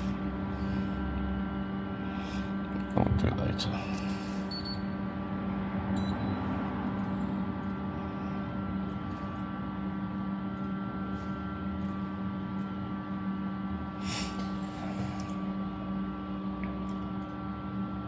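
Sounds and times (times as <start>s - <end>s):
steady hum of held tones: 0.0s - 18.0s.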